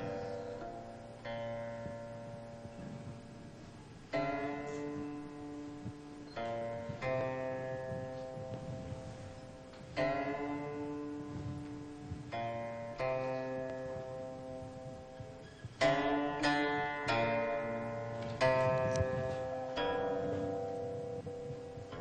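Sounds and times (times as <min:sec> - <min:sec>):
plucked string instrument music: 0:00.0 - 0:22.0.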